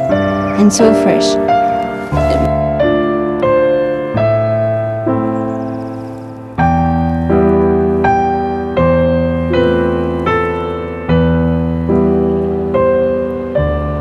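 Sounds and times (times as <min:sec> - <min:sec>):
slow solo piano: 0:00.0 - 0:14.0.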